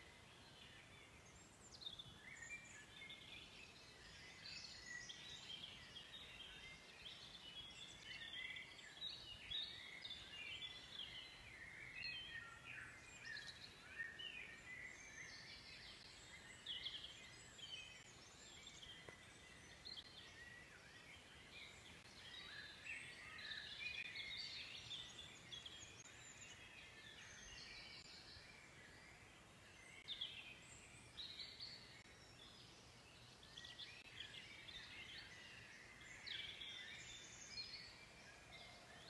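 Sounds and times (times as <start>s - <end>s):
faint birdsong: 0.0s - 39.0s.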